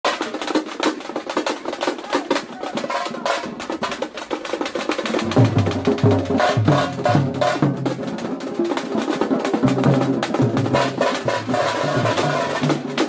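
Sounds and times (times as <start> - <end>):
frame drums beaten with sticks: 0.0 - 13.0.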